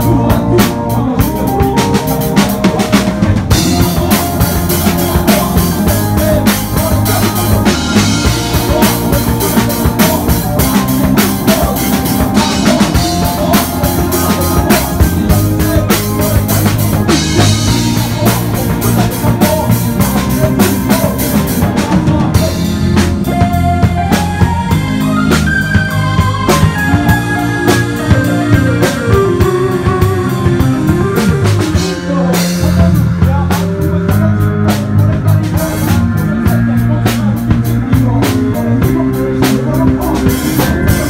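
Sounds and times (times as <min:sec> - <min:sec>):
bass guitar: 0:00.0 - 0:41.0
drum kit beat: 0:00.0 - 0:41.0
keyboard notes: 0:00.0 - 0:41.0
person singing: 0:00.0 - 0:41.0.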